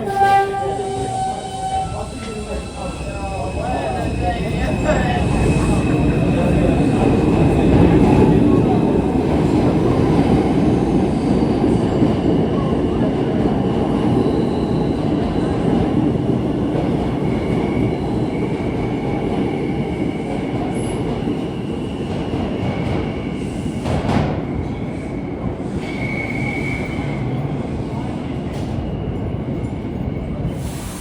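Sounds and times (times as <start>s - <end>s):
subway train rumbling on rails: 0.0s - 31.0s.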